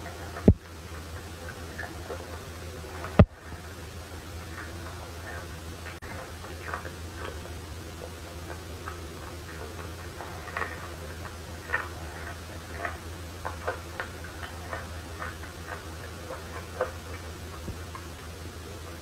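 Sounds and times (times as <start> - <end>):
chewing and biting food: 0.0 - 19.0
low hum: 0.0 - 19.0.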